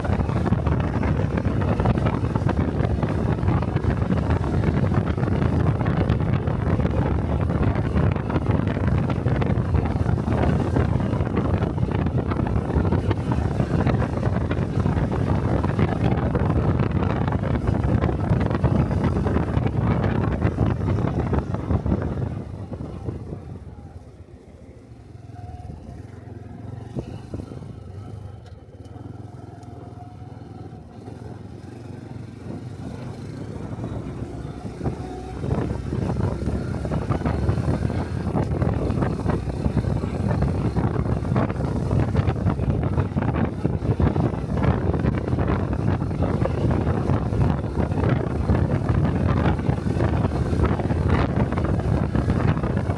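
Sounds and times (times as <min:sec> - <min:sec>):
wind rushing over microphone: 0:00.0 - 0:24.3, 0:29.8 - 0:52.9
motorcycle engine: 0:00.0 - 0:52.9.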